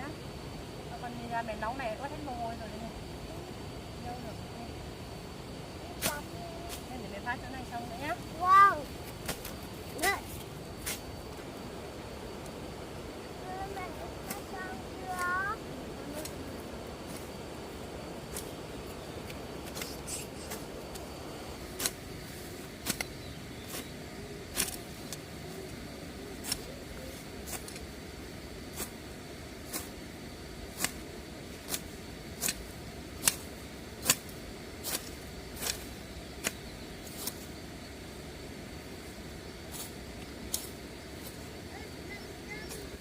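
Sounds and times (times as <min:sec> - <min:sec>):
low background noise: 0:00.0 - 0:43.0.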